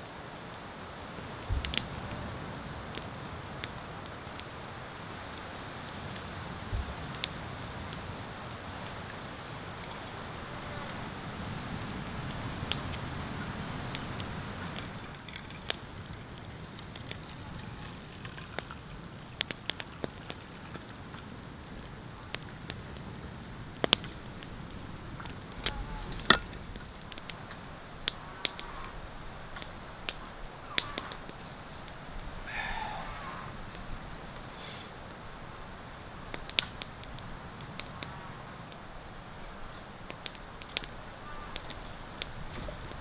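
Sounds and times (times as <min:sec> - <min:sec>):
campfire crackling and popping: 0:00.0 - 0:43.0
soft steady hiss: 0:00.0 - 0:43.0.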